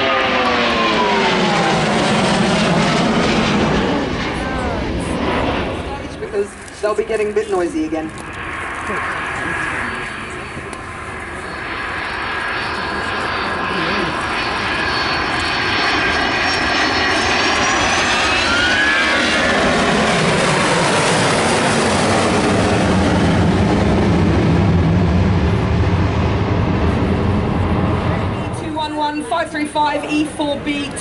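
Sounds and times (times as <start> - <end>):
jet deep rumble: 0.0 - 31.0
jet engine whine: 0.0 - 31.0.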